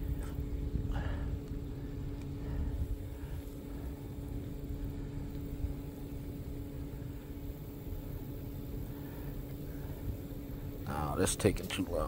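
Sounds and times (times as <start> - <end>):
wind rumbling on microphone: 0.0 - 10.8
steady low hum: 0.0 - 12.0.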